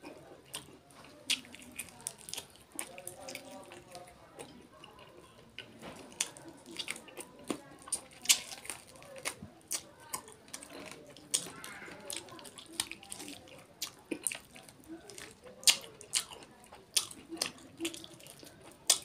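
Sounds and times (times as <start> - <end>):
wet chewing and lip smacks: 0.0 - 19.0.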